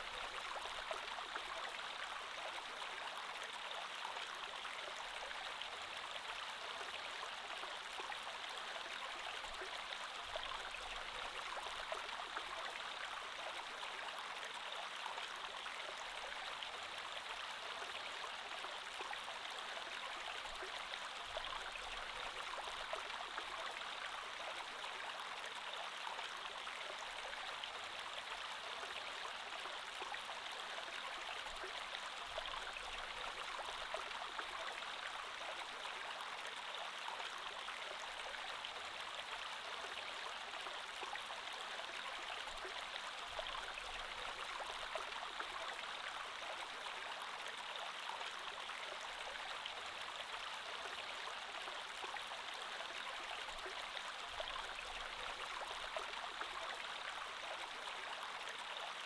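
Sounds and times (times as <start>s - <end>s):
creek flowing: 0.0s - 59.0s.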